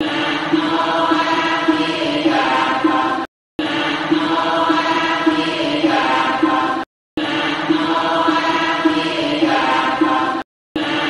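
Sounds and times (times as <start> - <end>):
voices chanting: 0.0 - 11.0.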